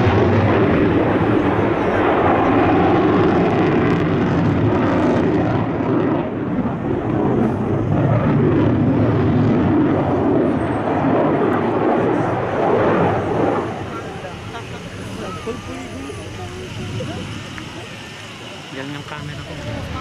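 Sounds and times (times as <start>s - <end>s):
plane engine and propeller: 0.0s - 20.0s.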